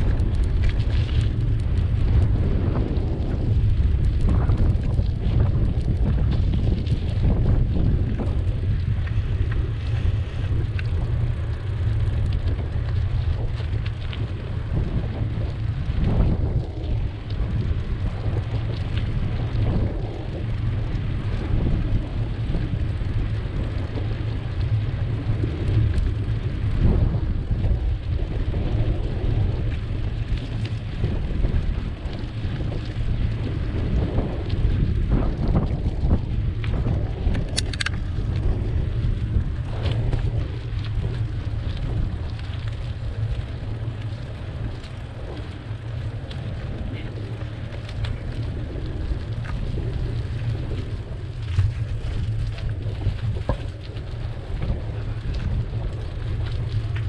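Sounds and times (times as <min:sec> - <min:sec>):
tyre and road noise: 0:00.0 - 0:57.0
wind buffeting microphone: 0:00.0 - 0:57.0.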